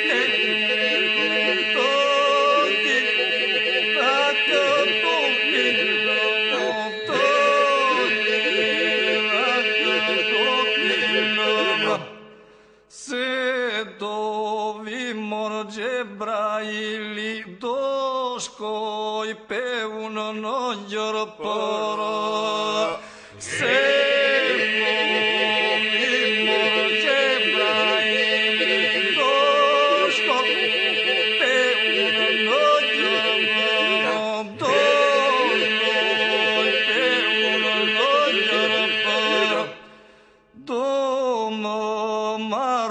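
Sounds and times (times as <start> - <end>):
male voices singing a hymn: 0.0 - 12.1, 13.0 - 39.9.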